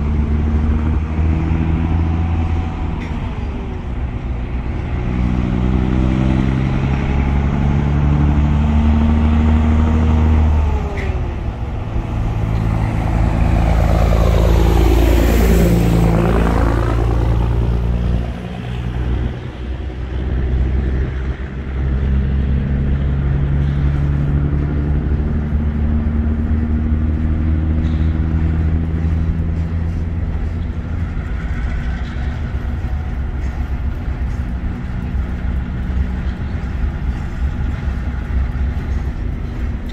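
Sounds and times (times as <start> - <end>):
diesel locomotive engine: 0.0 - 39.9
truck passing by: 0.0 - 39.9.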